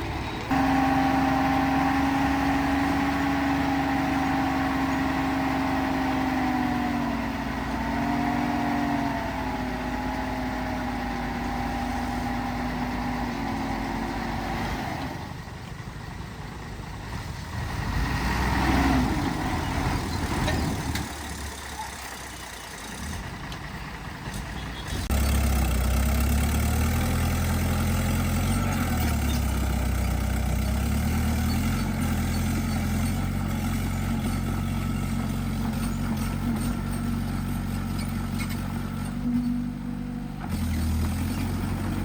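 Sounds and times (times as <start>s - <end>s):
bulldozer diesel engine: 0.0s - 42.0s.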